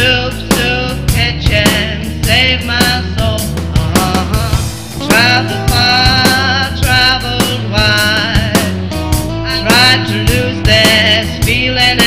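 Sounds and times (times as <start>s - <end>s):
backing band with drums and bass: 0.0s - 12.0s
person singing: 0.0s - 12.0s.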